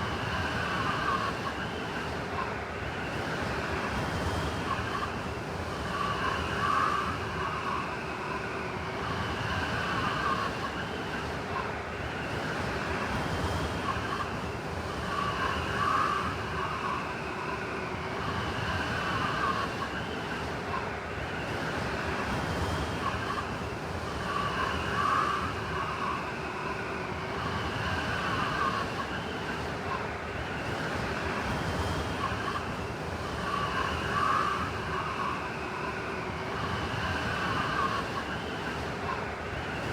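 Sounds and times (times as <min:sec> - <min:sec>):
blizzard wind howling: 0:00.0 - 0:39.9.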